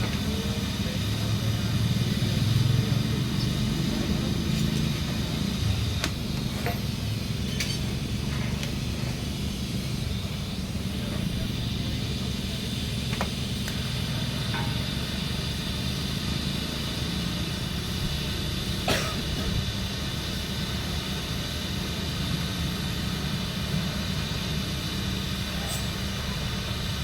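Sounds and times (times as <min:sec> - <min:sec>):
low machine drone: 0:00.0 - 0:27.0.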